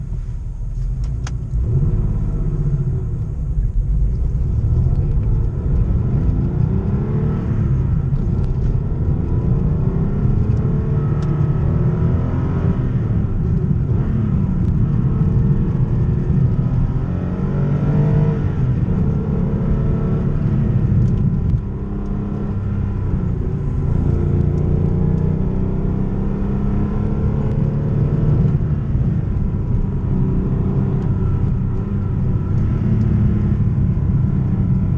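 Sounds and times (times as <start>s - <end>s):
car engine revving through gears: 0.7s - 34.9s.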